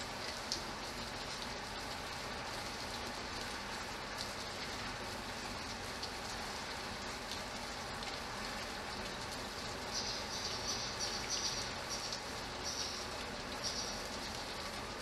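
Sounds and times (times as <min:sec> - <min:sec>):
steady rain falling: 0:00.0 - 0:15.0
water dripping off roof edge: 0:00.0 - 0:15.0.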